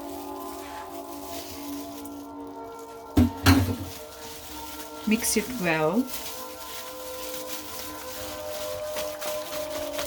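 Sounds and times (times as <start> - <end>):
background music with held tones: 0.0 - 10.0
meat squelching in marinade: 0.0 - 10.0.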